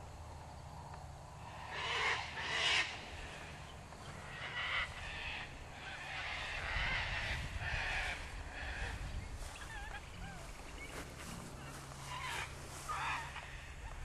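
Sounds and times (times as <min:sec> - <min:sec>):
low steady hum: 0:00.0 - 0:14.0
birds harsh calls: 0:00.7 - 0:14.0.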